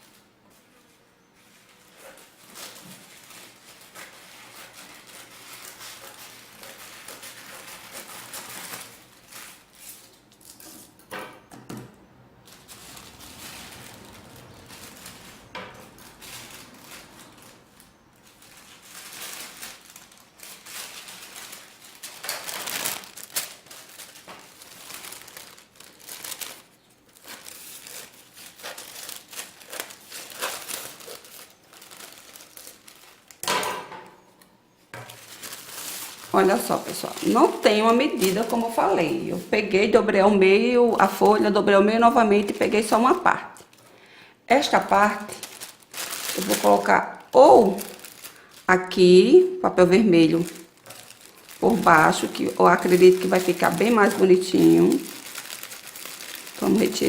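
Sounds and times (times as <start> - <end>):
tissue paper rustling: 0.0 - 10.6, 12.4 - 33.4, 35.0 - 43.9, 44.5 - 57.0.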